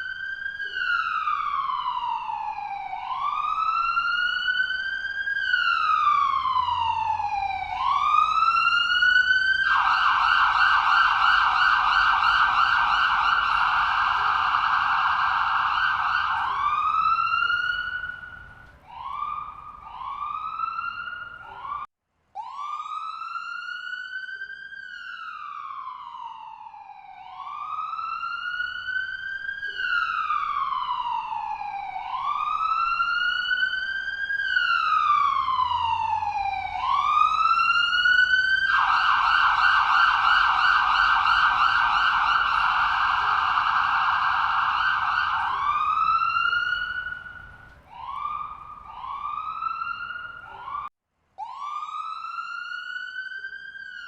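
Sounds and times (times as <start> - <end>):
electronic ambulance siren: 0.0 - 54.0.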